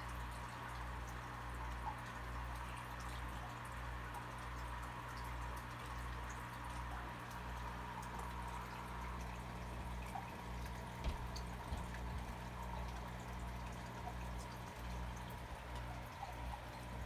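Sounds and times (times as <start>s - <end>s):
low electrical hum: 0.0s - 17.0s
water trickling and dripping: 0.0s - 17.0s.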